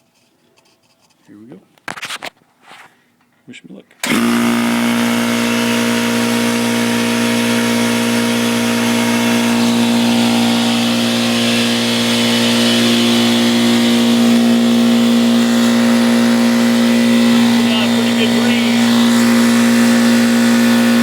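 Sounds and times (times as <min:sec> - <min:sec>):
air compressor humming: 0:04.0 - 0:21.0.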